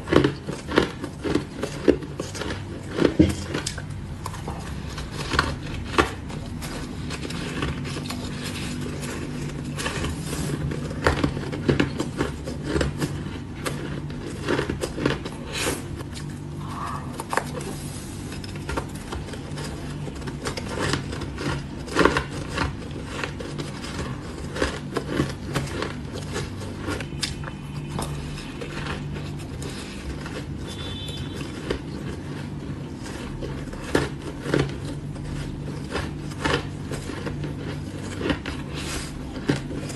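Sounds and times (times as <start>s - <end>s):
low steady hum: 0.0s - 39.9s
shaved ice crunching: 0.0s - 39.9s.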